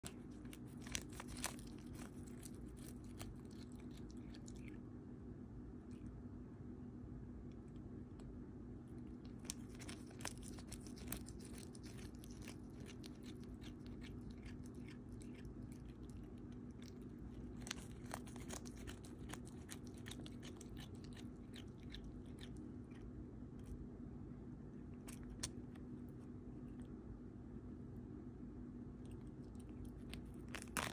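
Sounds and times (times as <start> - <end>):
cat crunching lettuce: 0.0 - 5.1, 5.7 - 6.2, 7.4 - 27.1, 28.9 - 30.9
faint steady hum: 0.0 - 30.9.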